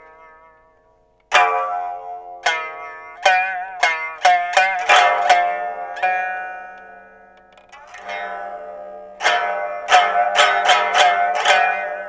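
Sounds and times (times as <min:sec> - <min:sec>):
lute plucked with a plectrum: 0:00.0 - 0:12.0.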